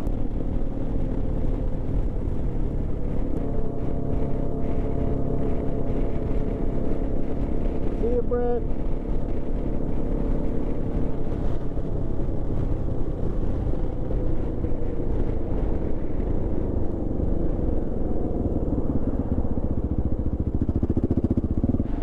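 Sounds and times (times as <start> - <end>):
motorcycle engine running: 0.0 - 22.0
wind rush: 0.0 - 22.0.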